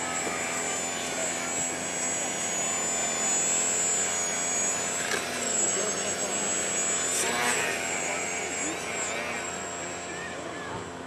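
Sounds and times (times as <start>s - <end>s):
electric motor whine: 0.0s - 11.0s
propeller rushing: 0.0s - 11.0s.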